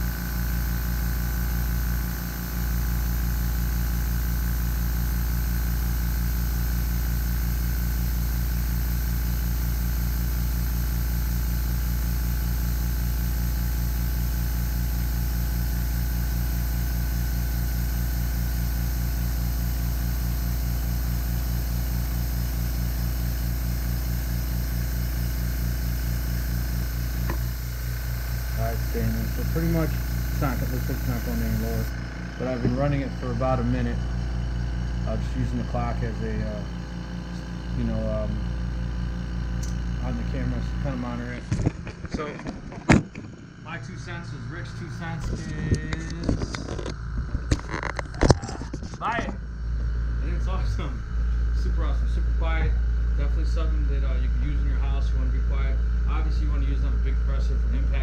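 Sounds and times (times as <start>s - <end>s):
air compressor pulsing hum: 0.0s - 58.0s.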